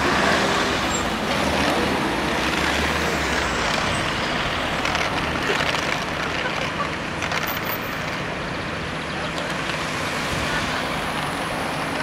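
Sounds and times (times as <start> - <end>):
cars driving past: 0.0 - 12.0.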